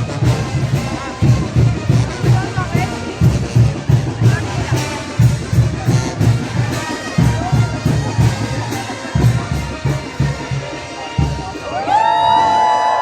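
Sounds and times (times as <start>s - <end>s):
bass drum beating: 0.0s - 12.8s
brass band playing: 0.0s - 13.0s.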